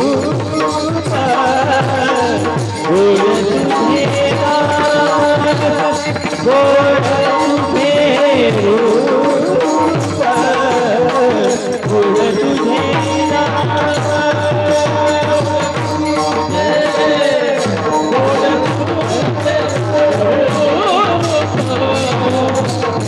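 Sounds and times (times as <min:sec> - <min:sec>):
hand drum rhythm: 0:00.0 - 0:23.0.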